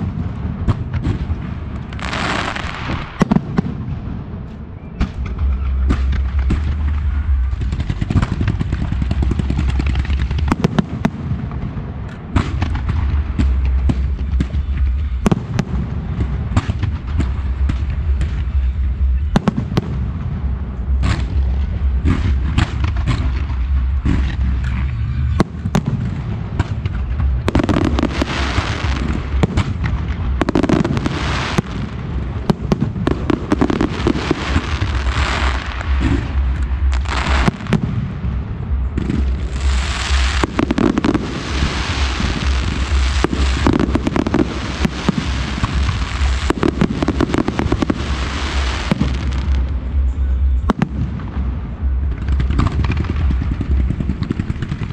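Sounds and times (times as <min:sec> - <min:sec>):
fireworks bangs: 0:00.0 - 0:54.9
fireworks crackling: 0:00.0 - 0:54.9
low rumble: 0:00.0 - 0:54.9.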